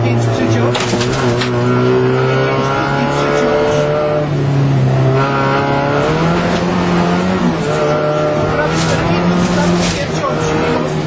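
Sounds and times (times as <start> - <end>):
car engine revving: 0.0 - 11.0
tyre and road noise: 0.0 - 11.0.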